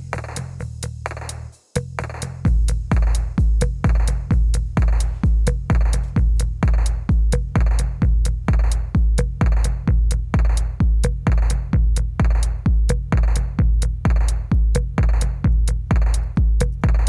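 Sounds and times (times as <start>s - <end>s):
electronic music with kick drum: 0.0s - 17.0s.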